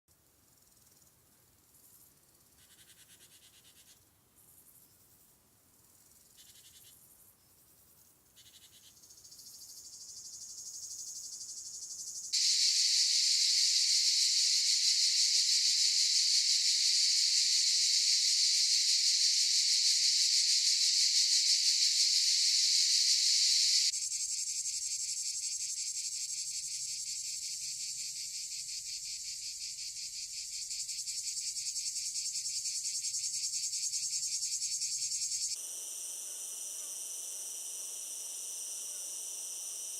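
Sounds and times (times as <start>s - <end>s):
cicadas buzzing: 2.6s - 4.0s, 5.9s - 7.0s, 8.4s - 39.9s.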